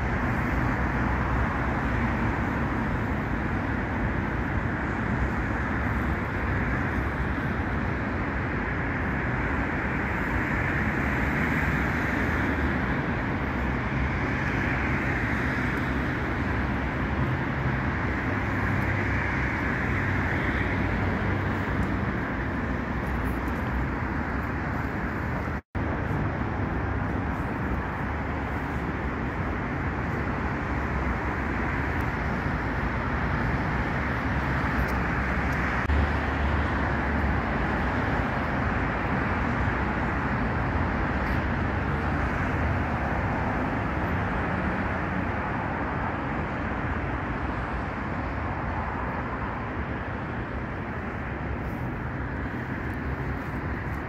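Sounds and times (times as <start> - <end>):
city road traffic rumble: 0.0 - 54.0.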